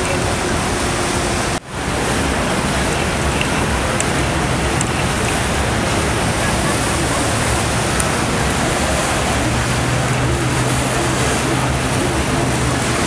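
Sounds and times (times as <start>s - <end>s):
motorboat engines: 0.0s - 13.0s
splashing water: 0.0s - 13.0s.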